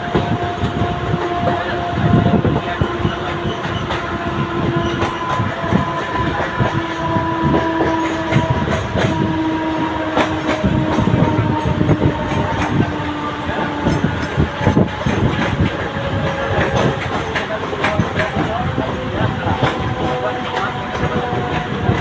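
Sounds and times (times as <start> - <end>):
train coaches rattling on track: 0.0 - 22.0.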